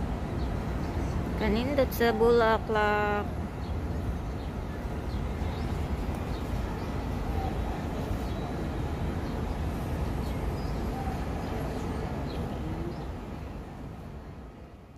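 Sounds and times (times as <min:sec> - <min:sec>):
low city rumble: 0:00.0 - 0:14.9
small birds chirping: 0:00.3 - 0:13.6.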